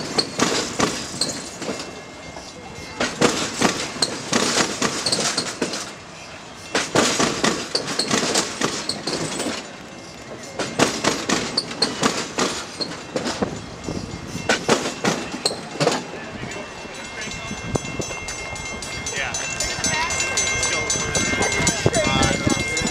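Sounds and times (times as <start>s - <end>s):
railcars rumbling: 0.0s - 22.9s
train wheels clacking over rail joints: 0.0s - 22.9s.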